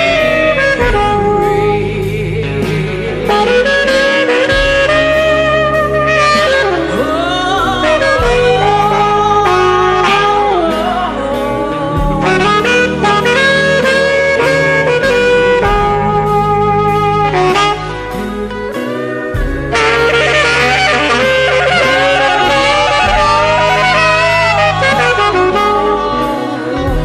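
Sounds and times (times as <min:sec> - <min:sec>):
bass and drum beat: 0:00.0 - 0:27.0
saxophone solo: 0:00.0 - 0:27.0.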